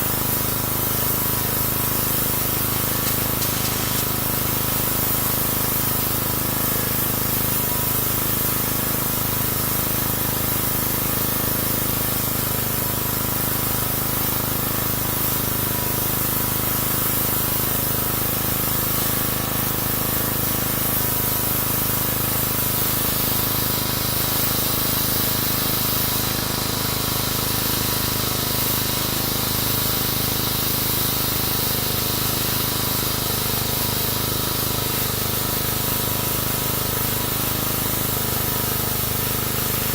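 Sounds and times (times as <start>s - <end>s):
pressure washer water jet hissing: 0.0s - 39.9s
pump droning: 0.0s - 39.9s.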